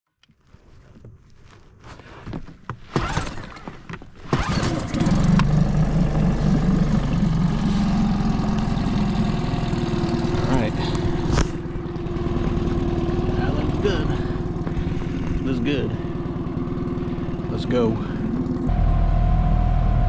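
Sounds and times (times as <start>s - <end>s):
outboard motor pull-start: 2.8s - 19.0s
outboard motor running: 2.9s - 20.0s.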